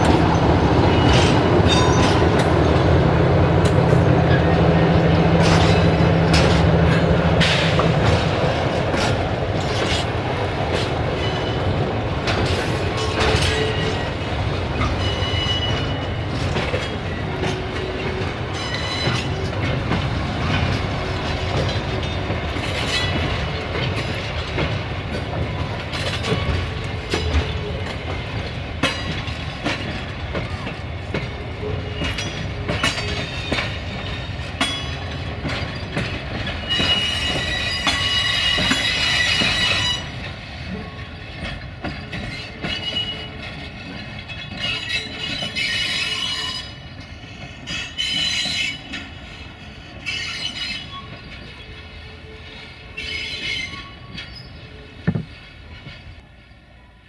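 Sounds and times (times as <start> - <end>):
locomotive engine rumble: 0.0 - 45.9
wheels clicking over rail joints: 3.5 - 56.3.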